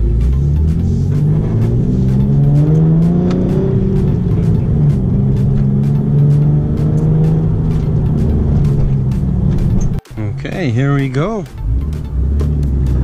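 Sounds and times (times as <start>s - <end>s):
car engine accelerating: 0.0s - 10.0s, 11.4s - 13.0s.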